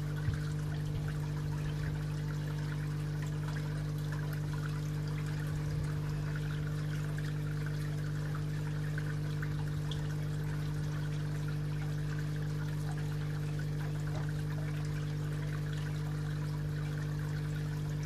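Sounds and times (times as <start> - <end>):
pond pump humming: 0.0 - 18.0
water pouring and trickling: 0.0 - 18.0.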